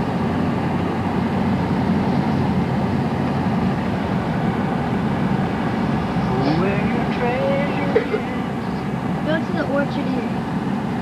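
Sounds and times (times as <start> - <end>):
tyres on the road: 0.0 - 11.0
van engine drone: 0.0 - 11.0.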